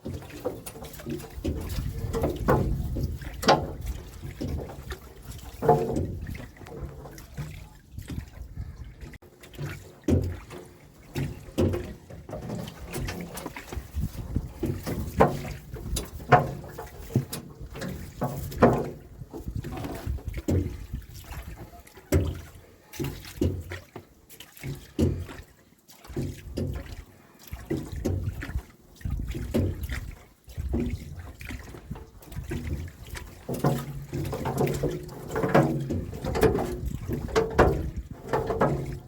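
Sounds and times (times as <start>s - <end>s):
water sloshing and splashing: 0.0s - 39.0s.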